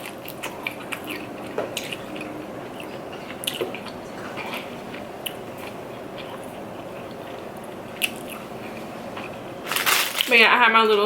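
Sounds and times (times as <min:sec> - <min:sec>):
person chewing: 0:00.0 - 0:10.3.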